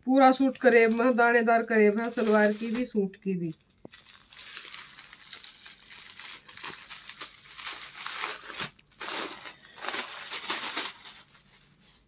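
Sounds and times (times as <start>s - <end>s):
plastic packet crinkling: 0.1s - 12.0s.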